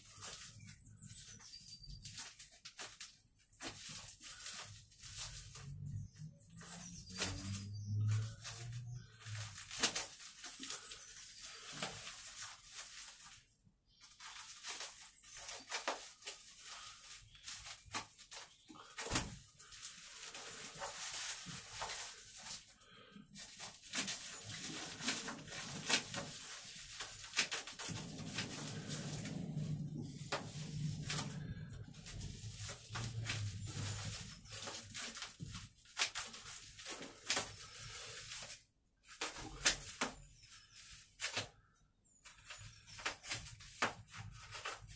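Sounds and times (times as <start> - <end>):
wrapping rustling and crinkling: 0.0 - 44.9.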